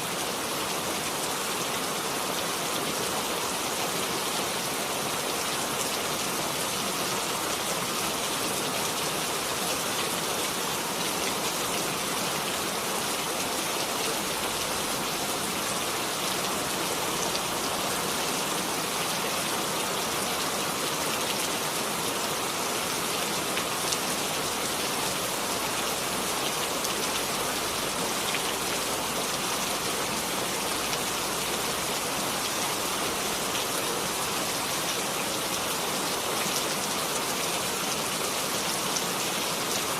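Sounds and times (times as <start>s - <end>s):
rain pattering on surface: 0.1s - 39.9s.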